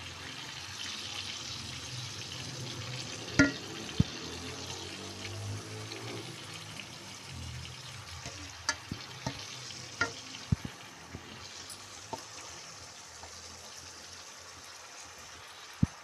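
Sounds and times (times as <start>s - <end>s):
chicken sizzling in a frying pan: 0.0s - 16.0s.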